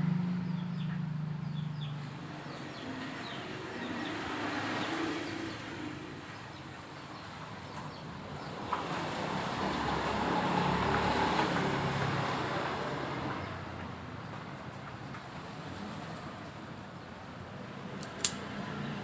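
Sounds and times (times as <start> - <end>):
motor vehicle engine passing by: 0.0 - 14.5, 17.8 - 19.0.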